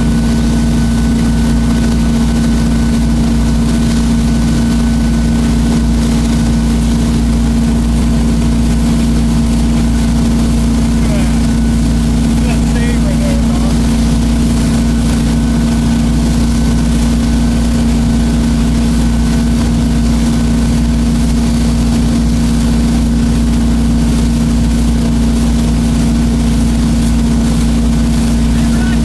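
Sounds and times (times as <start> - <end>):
boat engine humming: 0.0 - 29.0
churning wake rushing: 0.0 - 29.0.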